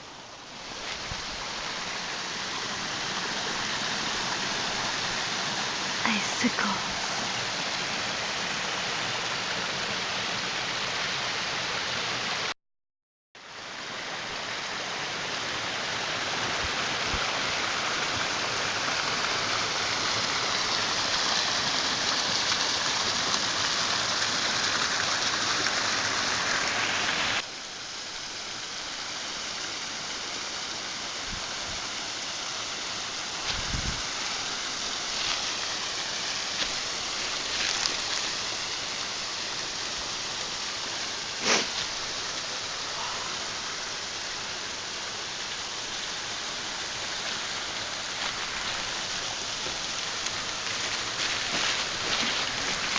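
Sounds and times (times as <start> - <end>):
waterfall rushing: 0.0 - 12.5, 13.5 - 52.9.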